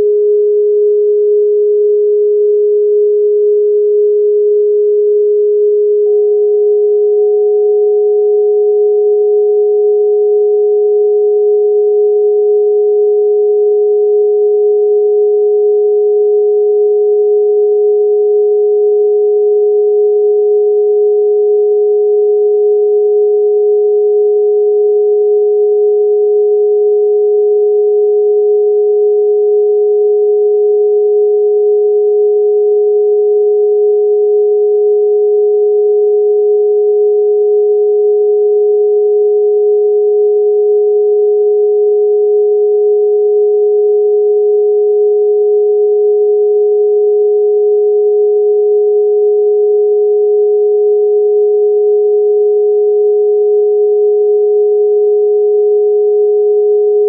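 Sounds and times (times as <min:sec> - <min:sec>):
steady sine-wave tone: 0:00.0 - 0:57.0.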